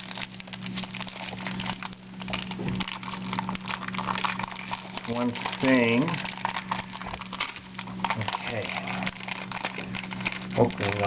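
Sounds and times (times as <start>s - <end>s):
plastic wrapper crinkling: 0.0s - 11.0s
steady low hum: 0.0s - 11.0s.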